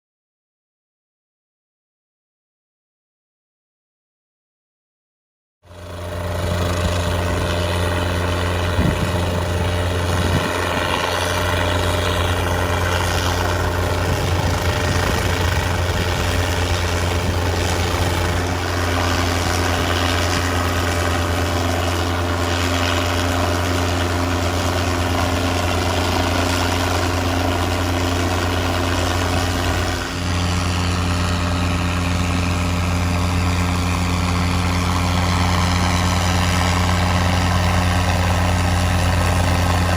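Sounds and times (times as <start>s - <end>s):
helicopter engine and rotor drone: 5.6s - 39.9s.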